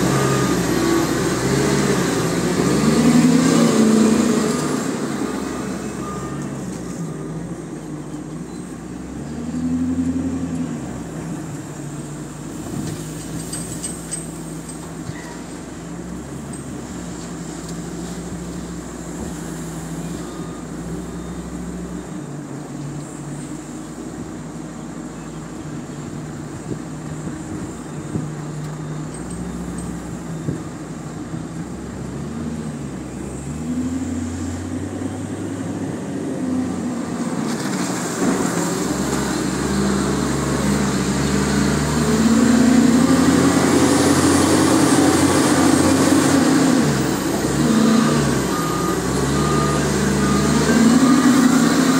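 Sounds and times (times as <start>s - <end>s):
wheel loader diesel engine: 0.0s - 51.9s.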